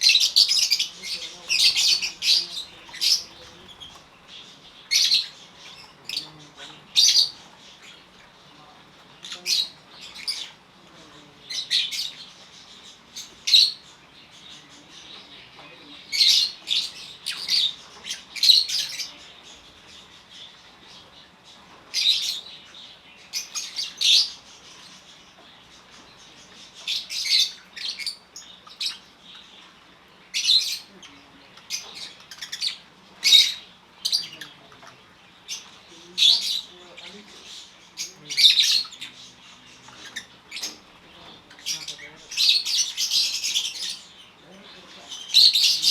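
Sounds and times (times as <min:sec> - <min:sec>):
lovebirds chirping and squawking: 0:00.0 - 0:45.9.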